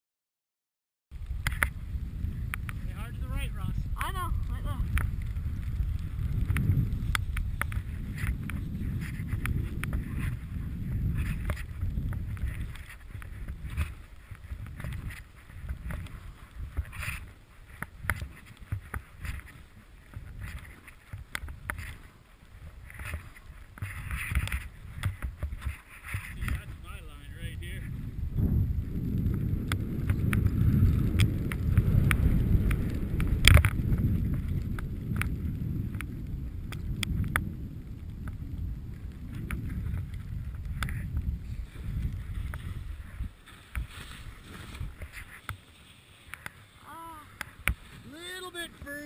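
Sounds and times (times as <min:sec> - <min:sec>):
wind rumbling on microphone: 0:01.1 - 0:49.0
skis swishing through powder snow: 0:04.3 - 0:34.6, 0:39.3 - 0:49.0.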